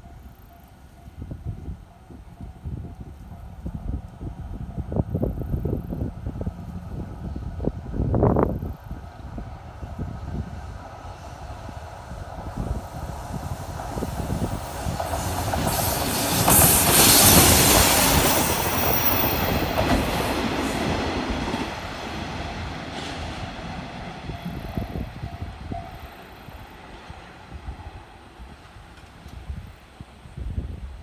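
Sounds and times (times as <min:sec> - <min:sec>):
train wheels rumbling: 0:01.4 - 0:30.2.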